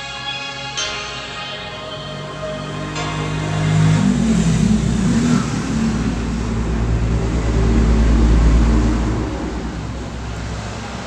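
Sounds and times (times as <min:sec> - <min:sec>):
car engine revving: 0:01.3 - 0:11.0.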